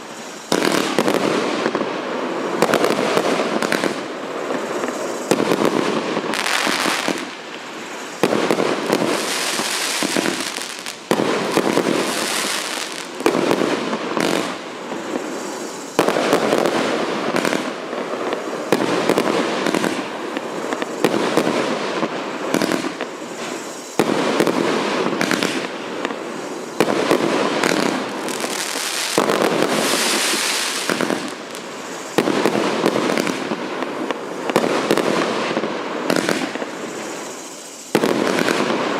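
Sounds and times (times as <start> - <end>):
fireworks launches and bursts: 0.0 - 38.9
loud fireworks salvo: 0.0 - 38.9.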